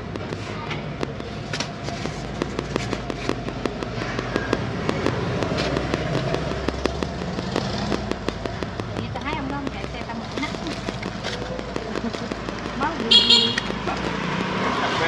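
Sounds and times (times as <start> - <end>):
hot oil crackling and popping: 0.0 - 15.0
low street hum: 0.0 - 15.0.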